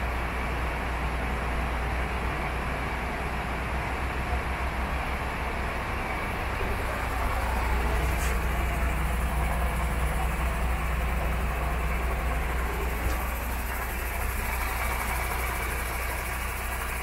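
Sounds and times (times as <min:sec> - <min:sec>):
diesel truck idling: 0:00.0 - 0:17.0.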